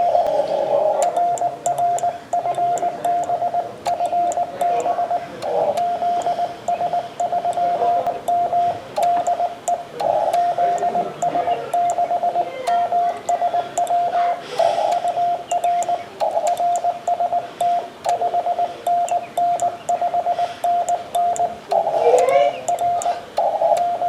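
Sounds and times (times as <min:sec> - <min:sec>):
morse code tone: 0:00.0 - 0:24.0
radio band hiss: 0:00.0 - 0:24.0
sharp clicks: 0:00.0 - 0:24.0.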